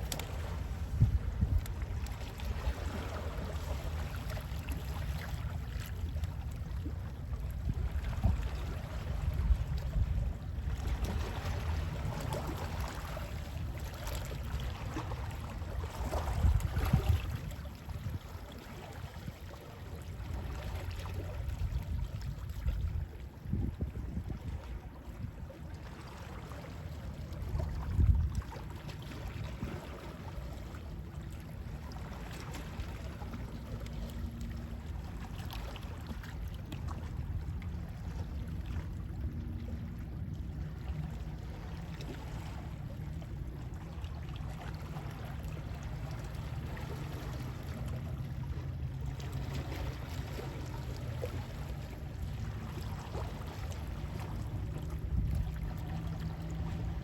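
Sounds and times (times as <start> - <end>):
sea wind: 0.0 - 57.0.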